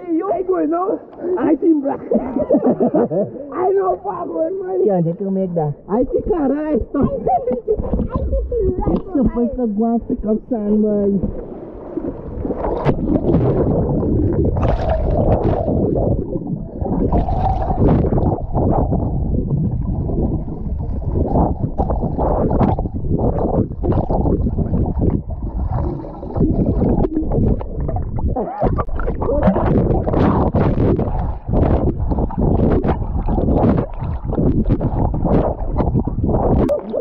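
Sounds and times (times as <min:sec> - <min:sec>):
water sloshing and splashing: 0:00.0 - 0:37.0
muffled underwater gurgling: 0:01.1 - 0:37.0.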